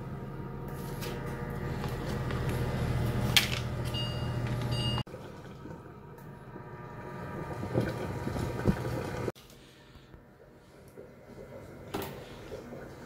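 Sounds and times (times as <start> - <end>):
cooktop hum with high whine: 0.0 - 13.0.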